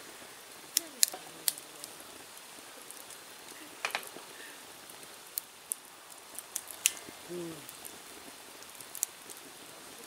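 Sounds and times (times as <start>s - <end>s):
campfire crackling and popping: 0.0s - 10.0s
faint steady hiss: 0.0s - 10.0s.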